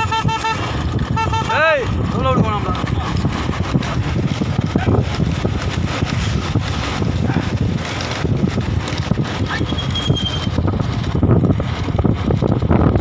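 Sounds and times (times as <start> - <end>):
low rumble: 0.0 - 13.0
wind buffeting microphone: 0.0 - 13.0.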